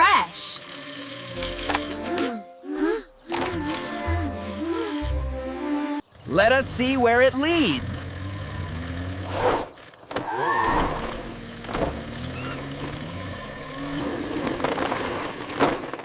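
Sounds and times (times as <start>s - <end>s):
cartoon car engine humming: 0.0s - 15.3s.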